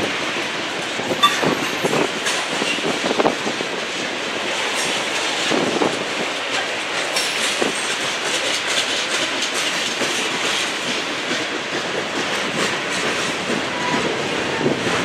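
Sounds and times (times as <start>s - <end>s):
steel wheels rushing on rail: 0.0s - 15.0s.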